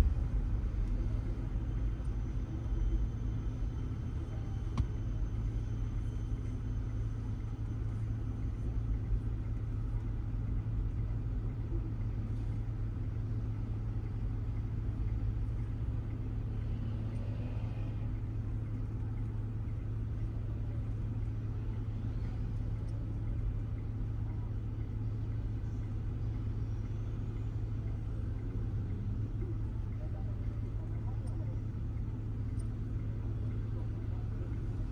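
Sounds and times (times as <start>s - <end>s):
car road and engine rumble: 0.0s - 34.9s.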